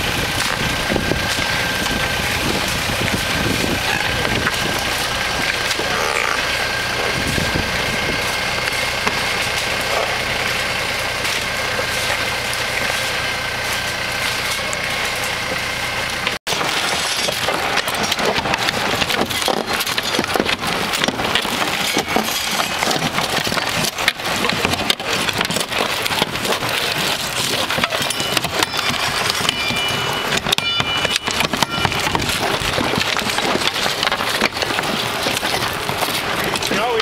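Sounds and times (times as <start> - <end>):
shingles scraping and breaking: 0.0 - 37.0.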